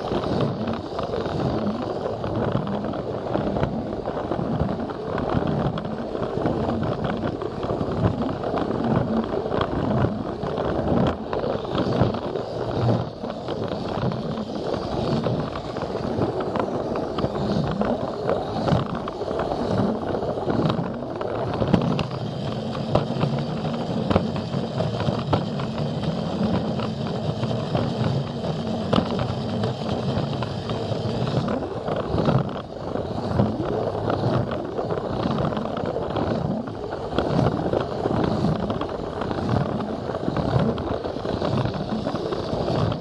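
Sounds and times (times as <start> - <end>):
toy train motor whirring: 0.0 - 43.0
wheels rattling over plastic track: 0.0 - 43.0.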